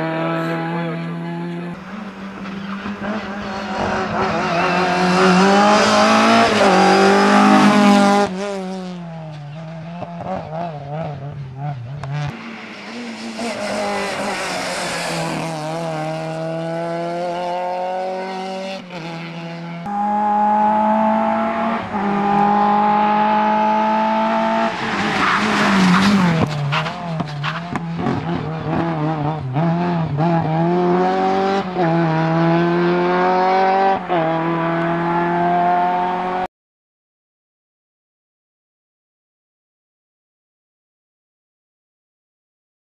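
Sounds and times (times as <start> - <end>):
rally car engine accelerating: 0.0 - 36.5.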